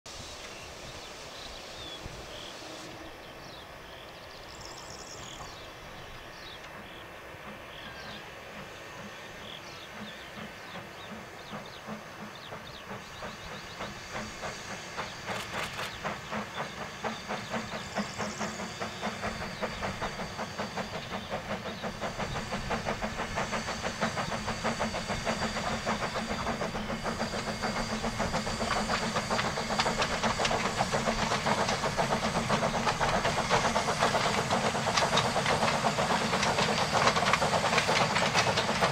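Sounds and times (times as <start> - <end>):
steam locomotive chuffing: 0.1 - 38.9.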